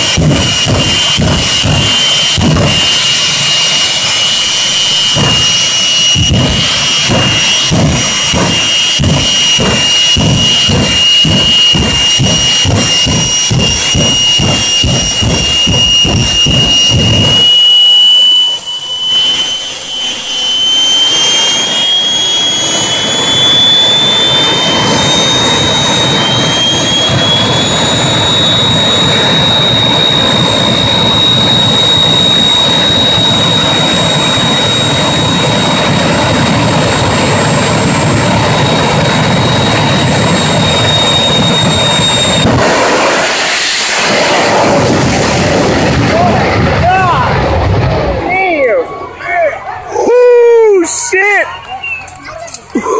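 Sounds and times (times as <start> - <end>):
high turbine whine: 0.0 - 52.9
jet engines roaring: 0.0 - 52.9.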